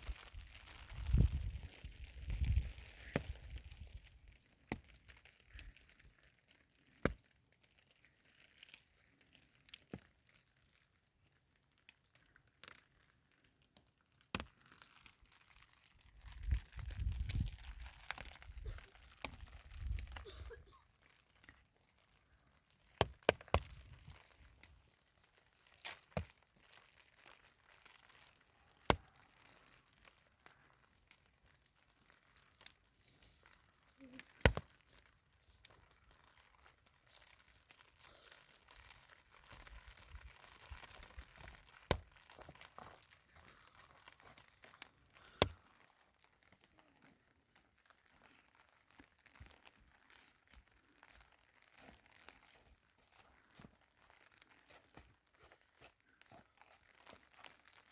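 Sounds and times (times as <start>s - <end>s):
faint crinkling and rustling: 0.0s - 57.9s.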